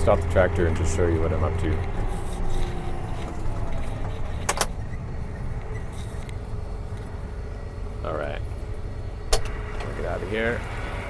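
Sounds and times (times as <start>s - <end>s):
faint whine: 0.0s - 11.0s
tractor engine running low: 0.0s - 11.0s.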